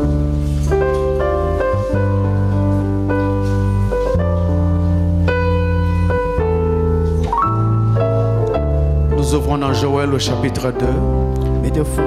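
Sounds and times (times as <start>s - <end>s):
deep bass line: 0.0s - 12.0s
keyboard playing chords: 0.0s - 12.0s.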